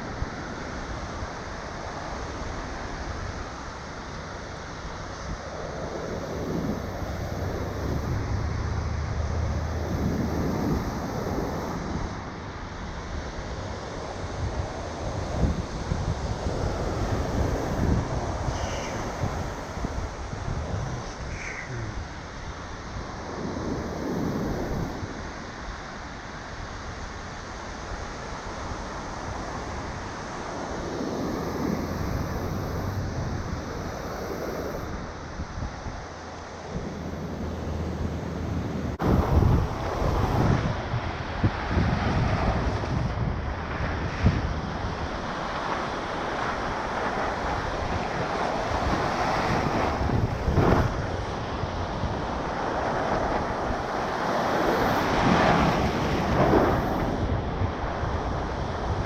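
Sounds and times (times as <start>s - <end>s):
surf breaking on shore: 0.0s - 59.0s
waves washing up beach: 0.0s - 59.0s
wind buffeting microphone: 4.9s - 26.0s, 28.6s - 59.0s.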